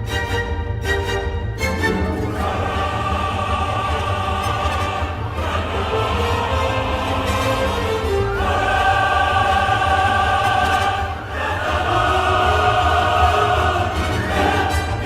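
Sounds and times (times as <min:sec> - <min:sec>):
orchestral music: 0:00.0 - 0:15.0
choir singing held chords: 0:01.9 - 0:15.0.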